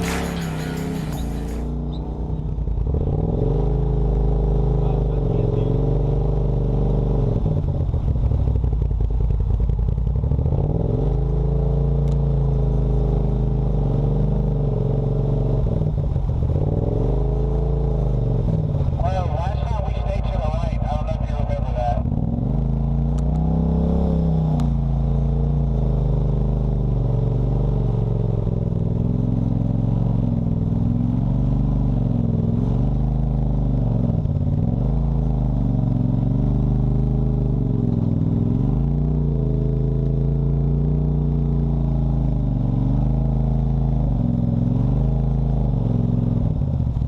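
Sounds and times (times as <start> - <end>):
off-road vehicle engine: 0.0 - 47.0.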